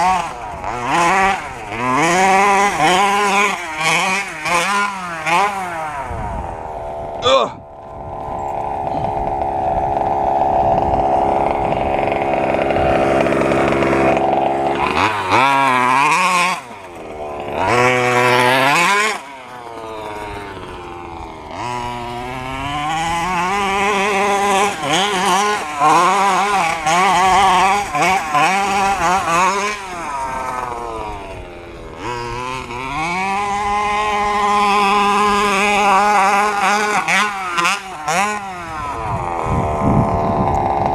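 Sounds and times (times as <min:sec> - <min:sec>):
small two-stroke engine revving: 0:00.0 - 0:40.9.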